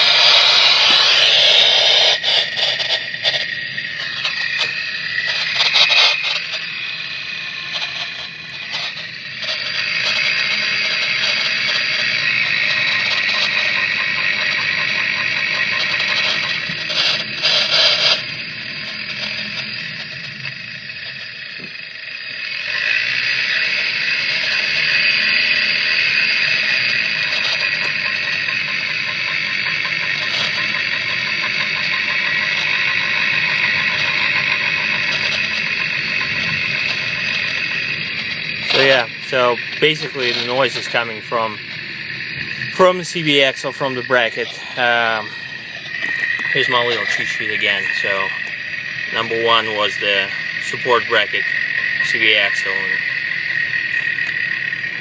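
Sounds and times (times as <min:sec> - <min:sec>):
steady rushing driveline drone: 0:00.0 - 0:55.0.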